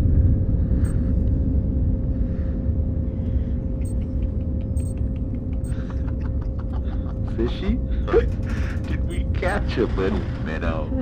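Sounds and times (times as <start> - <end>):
cabin rumble in flight: 0.0 - 11.0
constant hum: 0.0 - 11.0.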